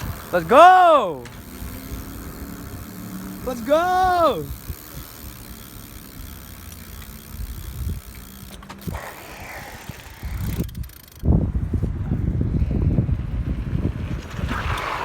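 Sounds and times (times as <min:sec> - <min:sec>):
bicycle mechanical running noise: 0:00.0 - 0:15.0
wind buffeting microphone: 0:00.0 - 0:15.0.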